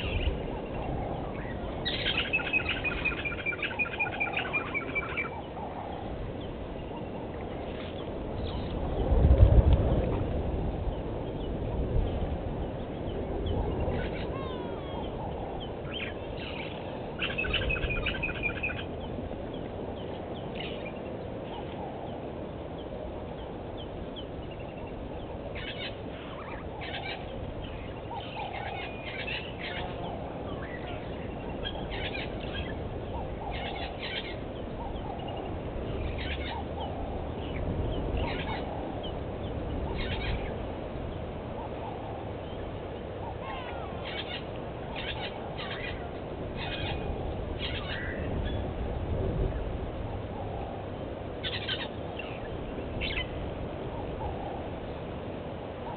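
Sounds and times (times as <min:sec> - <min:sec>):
low outdoor background noise: 0:00.0 - 0:55.9
wild birds calling: 0:00.0 - 0:55.9.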